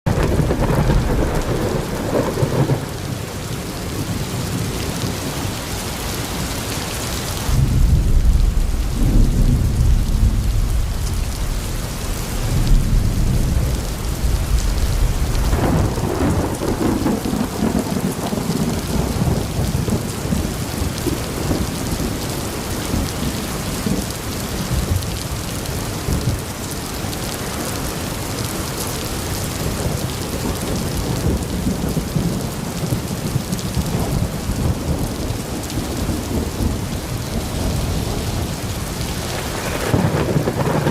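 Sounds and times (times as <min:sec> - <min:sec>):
thunder rumbling: 0:00.1 - 0:05.4, 0:07.1 - 0:40.9
steady rain: 0:00.1 - 0:40.9.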